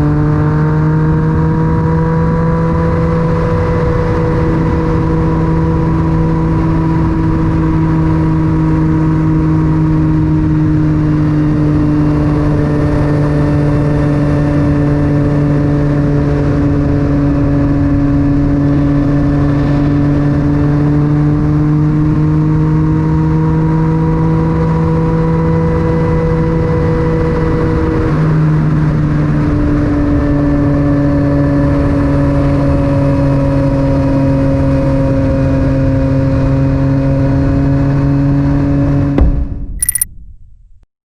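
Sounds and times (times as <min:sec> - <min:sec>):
motorcycle engine while riding: 0:00.0 - 0:39.0.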